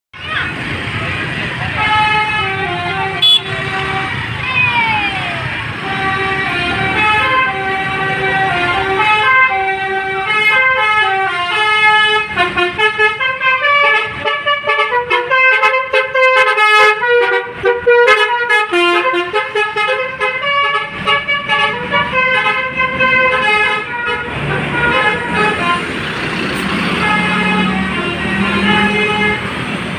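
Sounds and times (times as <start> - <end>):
multi-tone bus horn tune: 1.6 - 4.4, 5.6 - 29.9.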